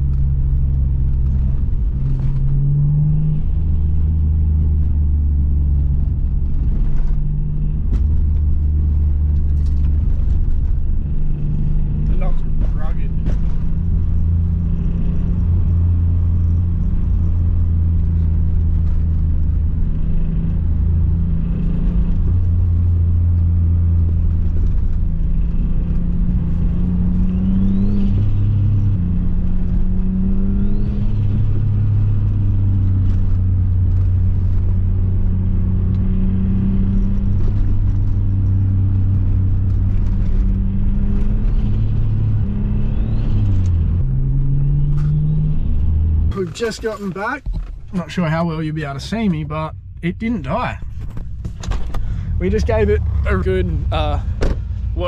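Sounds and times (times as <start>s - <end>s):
car engine drone in cabin: 0.0s - 55.0s.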